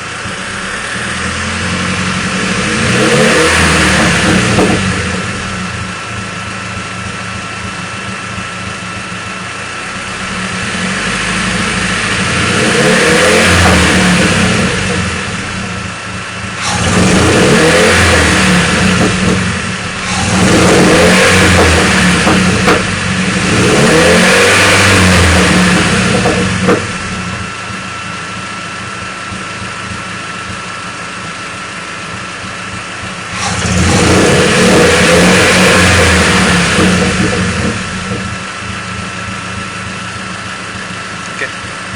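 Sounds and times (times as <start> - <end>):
engine idling and revving: 0.0 - 41.9.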